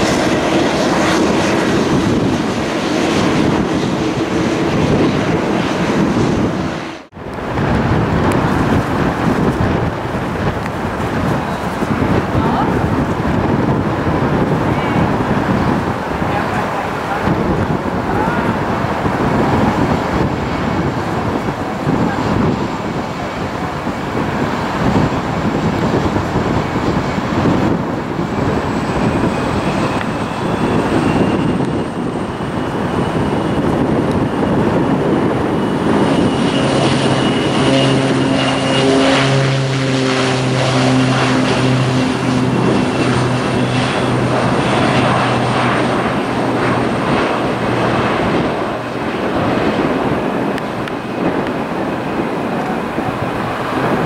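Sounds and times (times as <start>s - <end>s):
broad rushing noise: 0.0s - 54.0s
jet engine high whine: 0.0s - 54.0s.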